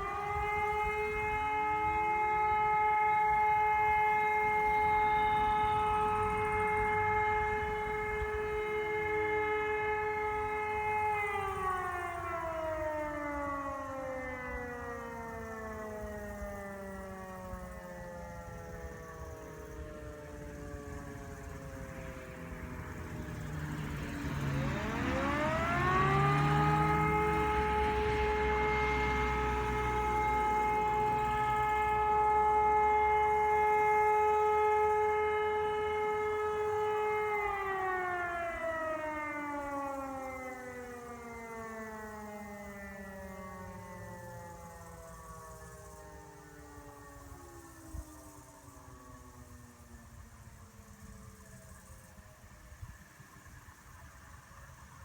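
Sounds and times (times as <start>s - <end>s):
siren wailing: 0.0s - 55.0s.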